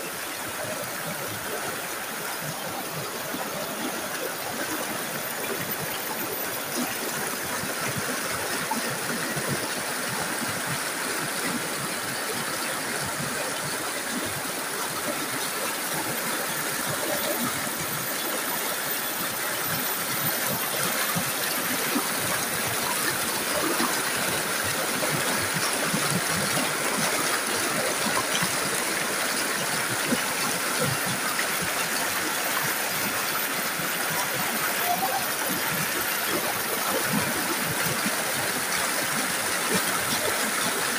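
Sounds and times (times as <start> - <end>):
stream rushing over boulders: 0.0 - 40.9.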